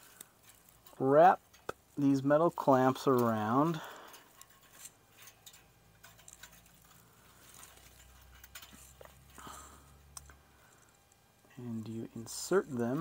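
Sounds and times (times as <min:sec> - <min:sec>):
faint low hum: 0:00.0 - 0:13.0
metal clamps ticking and scraping: 0:00.0 - 0:13.0.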